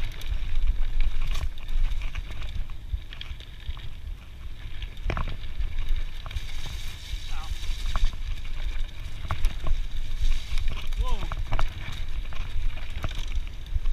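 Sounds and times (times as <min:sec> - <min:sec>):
bike clicks and rattles: 0:00.0 - 0:13.9
tyre noise on dirt trail: 0:00.0 - 0:13.9
wind rumble on microphone: 0:00.0 - 0:13.9.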